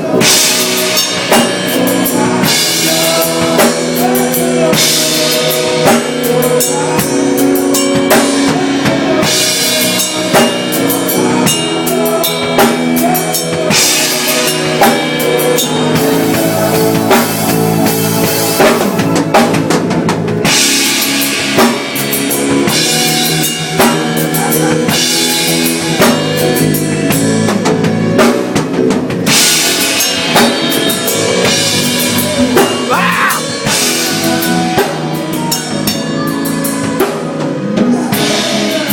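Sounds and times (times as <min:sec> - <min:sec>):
instrumental band music: 0:00.0 - 0:38.9.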